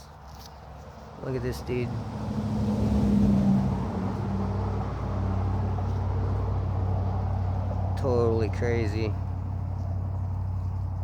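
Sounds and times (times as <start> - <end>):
low engine hum: 1.1 - 11.0.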